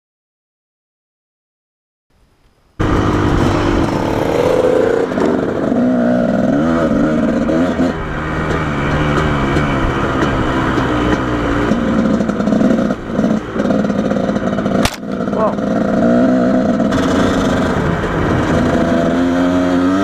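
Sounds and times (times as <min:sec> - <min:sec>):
dirt bike engine revving: 0:02.8 - 0:20.0.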